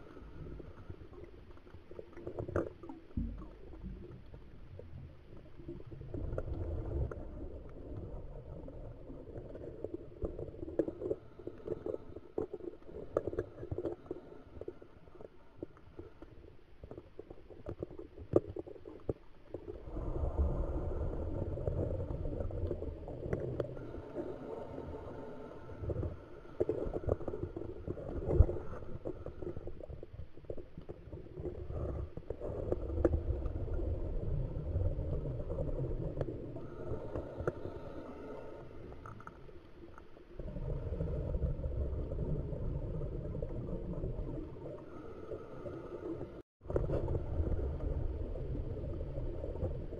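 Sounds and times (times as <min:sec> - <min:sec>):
underwater bubbles gurgling: 0:00.0 - 0:49.9.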